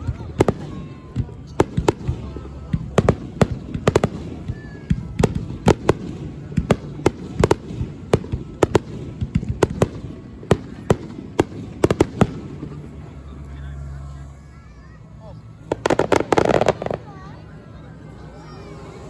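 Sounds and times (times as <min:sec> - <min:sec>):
fireworks bursting: 0:00.0 - 0:14.0, 0:14.8 - 0:17.5.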